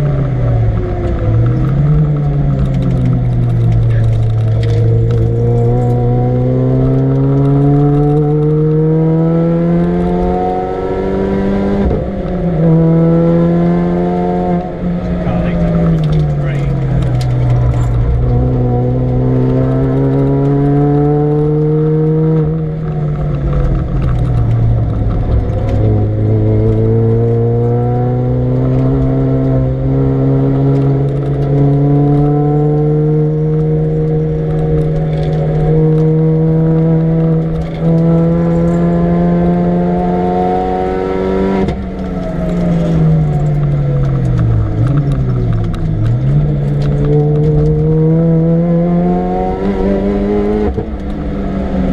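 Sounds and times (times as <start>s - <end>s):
car engine at full throttle: 0.0s - 51.9s
throttle blips on downshifts: 0.0s - 51.9s.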